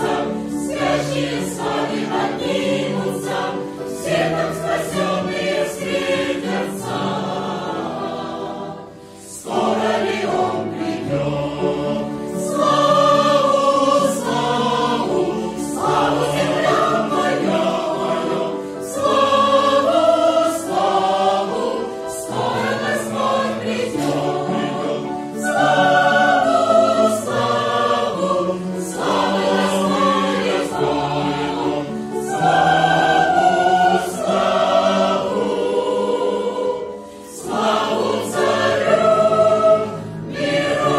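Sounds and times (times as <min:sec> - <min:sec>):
mixed choir singing a hymn: 0:00.0 - 0:40.9.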